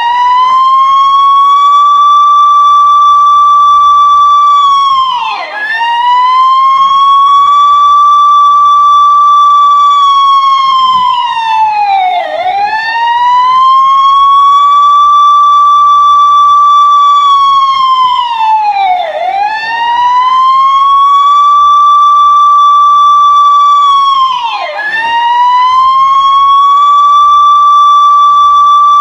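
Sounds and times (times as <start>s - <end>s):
police siren wailing: 0.0s - 29.0s.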